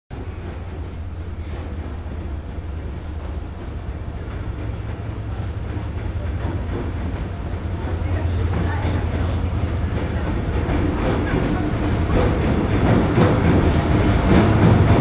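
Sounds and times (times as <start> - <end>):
diesel locomotive engine drone: 0.1 - 15.0
track rumble: 0.1 - 15.0.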